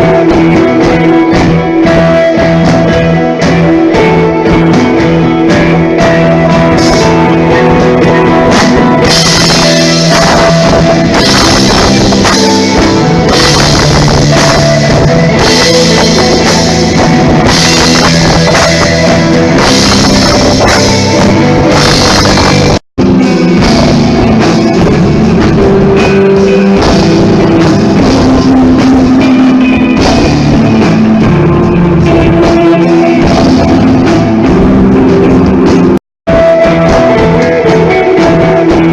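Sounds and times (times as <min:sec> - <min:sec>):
drum kit with cymbals: 0:00.0 - 0:38.9
electric guitar: 0:00.0 - 0:38.9.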